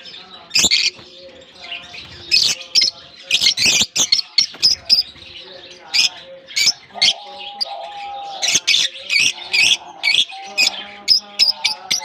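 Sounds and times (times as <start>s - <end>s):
lovebirds squawking and chirping: 0.0s - 12.0s.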